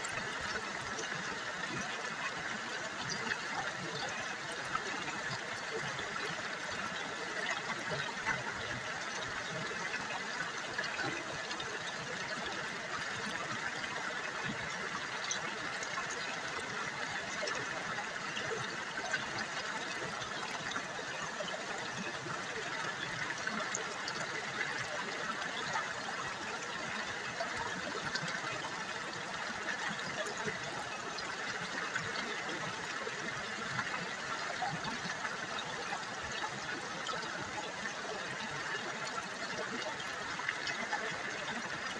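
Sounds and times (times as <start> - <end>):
river water babbling: 0.0 - 41.9.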